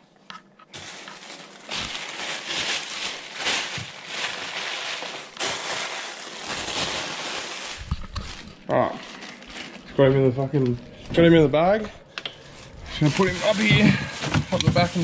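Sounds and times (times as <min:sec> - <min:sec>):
plastic bag rustling: 0:00.7 - 0:11.8, 0:12.4 - 0:15.0.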